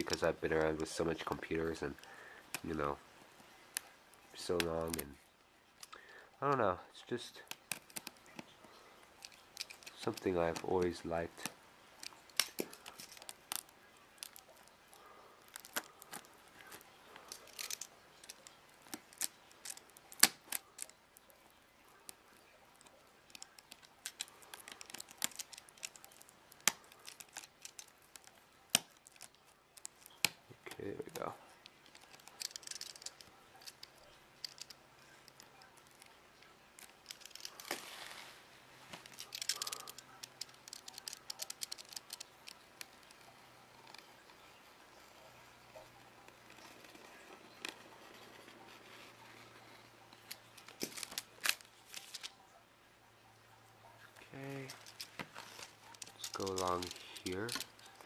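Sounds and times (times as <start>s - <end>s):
plastic crinkling: 0.0s - 52.6s, 54.0s - 58.0s.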